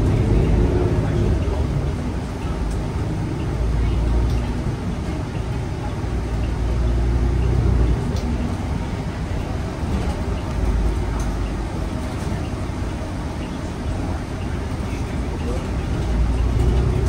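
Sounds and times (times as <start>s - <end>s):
bus engine rumbling: 0.0s - 17.0s
road noise: 0.0s - 17.0s.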